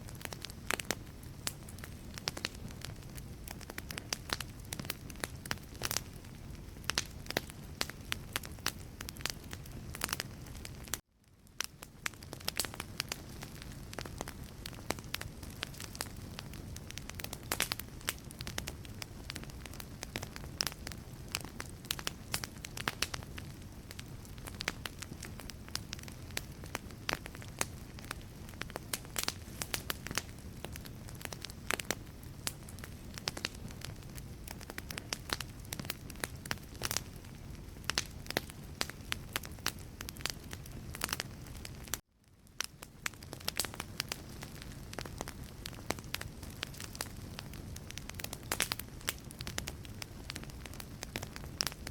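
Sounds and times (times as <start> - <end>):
low rush of flame: 0.0 - 42.0
logs crackling and popping: 0.0 - 51.9.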